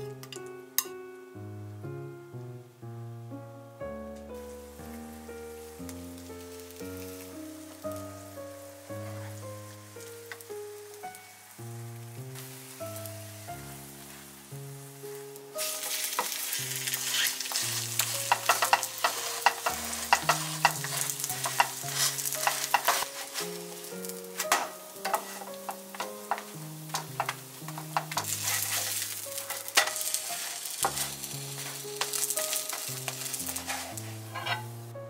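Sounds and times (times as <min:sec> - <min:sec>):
background music: 0:00.0 - 0:35.0
roti sizzling in a pan: 0:04.0 - 0:35.0.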